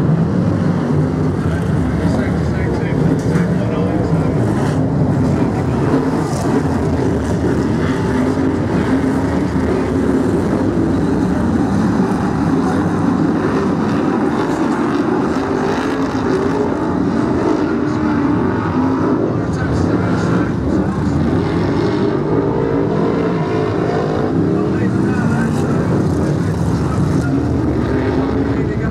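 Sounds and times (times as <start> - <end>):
racing car engines: 0.0 - 28.9.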